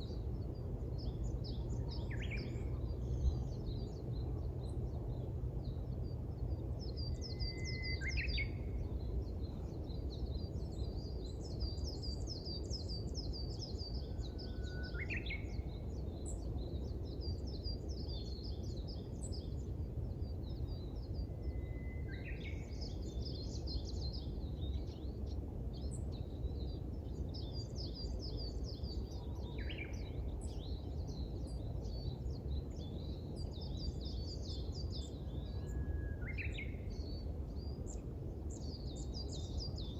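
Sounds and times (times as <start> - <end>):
low background rumble: 0.0 - 39.9
small birds twittering: 0.0 - 39.9.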